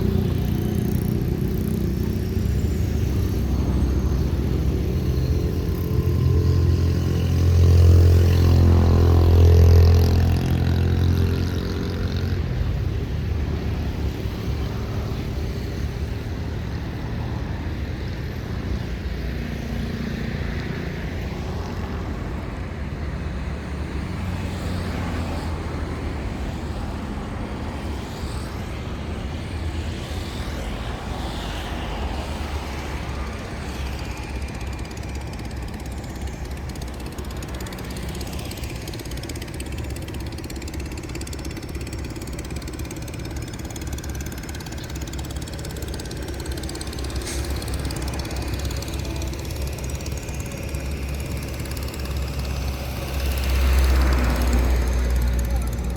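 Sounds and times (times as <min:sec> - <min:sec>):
large engine humming: 0:00.0 - 0:55.9
traffic rumble: 0:00.0 - 0:55.9.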